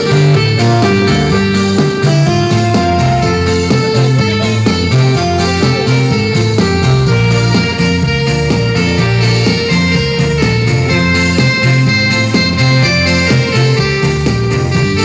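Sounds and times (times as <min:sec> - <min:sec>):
electronic keyboard music: 0:00.0 - 0:15.0.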